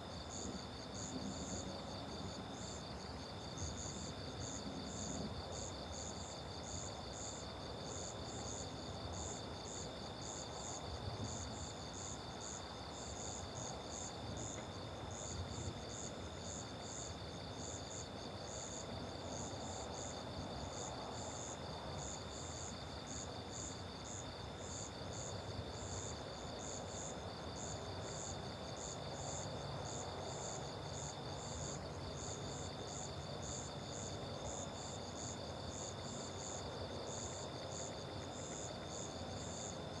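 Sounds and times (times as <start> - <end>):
crickets pulsing chirp: 0.0 - 40.0.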